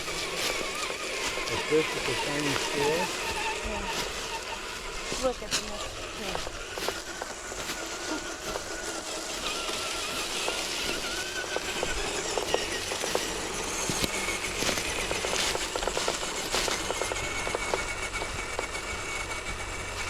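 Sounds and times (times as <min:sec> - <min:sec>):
crackles under tyres: 0:00.0 - 0:20.0
electric motor whining: 0:00.0 - 0:20.0.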